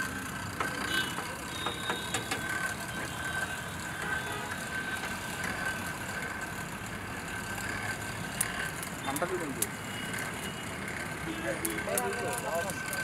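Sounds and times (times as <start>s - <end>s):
hand-cranked blower whirring: 0.0s - 13.0s.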